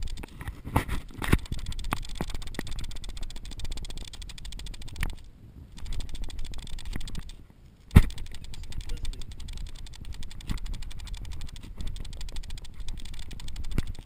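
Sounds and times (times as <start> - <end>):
fast even rattling: 0.0 - 14.0.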